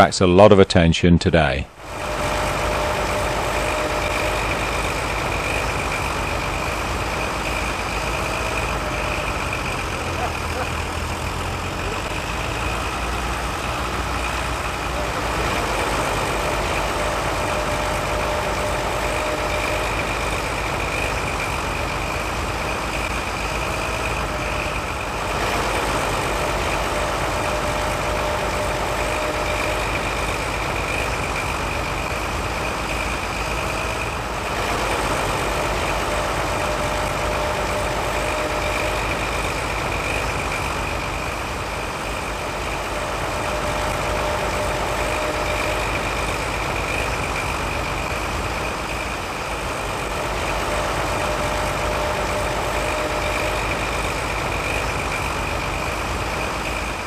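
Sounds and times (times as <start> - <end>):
tractor engine running under load: 1.5 - 57.0.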